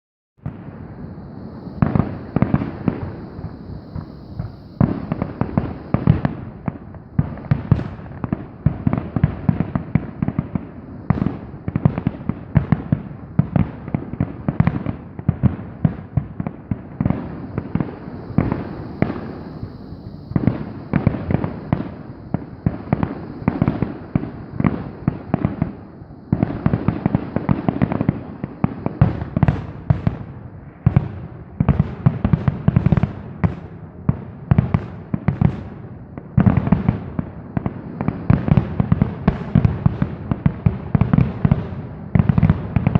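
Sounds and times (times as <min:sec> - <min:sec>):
fireworks bangs and crackles: 0:00.4 - 0:42.9.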